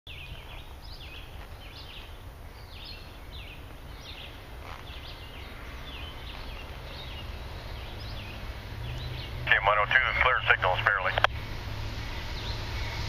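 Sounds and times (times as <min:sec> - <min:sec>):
low steady rumble: 0:00.1 - 0:13.0
songbirds chirping: 0:00.1 - 0:13.0.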